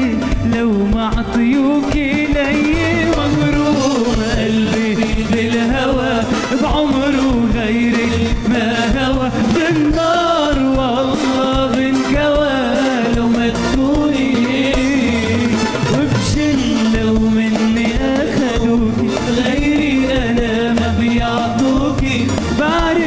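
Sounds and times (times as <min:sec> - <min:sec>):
darbuka and drum kit percussion: 0:00.0 - 0:23.0
keyboard: 0:00.0 - 0:23.0
live band playing pop music: 0:00.0 - 0:23.0.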